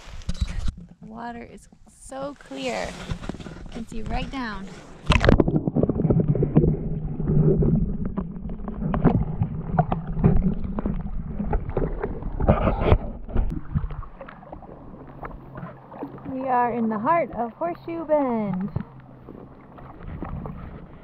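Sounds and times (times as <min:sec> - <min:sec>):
muffled underwater sloshing: 0:00.0 - 0:21.0.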